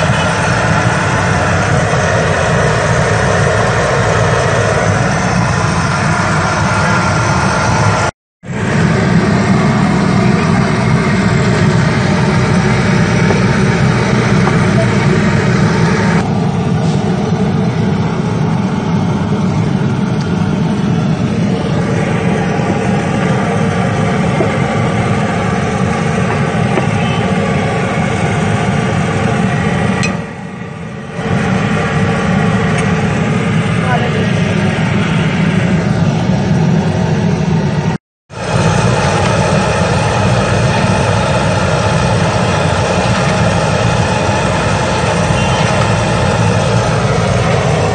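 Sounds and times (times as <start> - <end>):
engine-like hum: 0.0 - 47.9.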